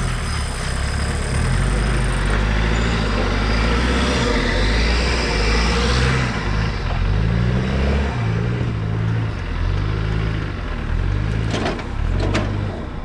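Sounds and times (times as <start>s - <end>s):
vehicle engine revving: 0.0s - 12.7s.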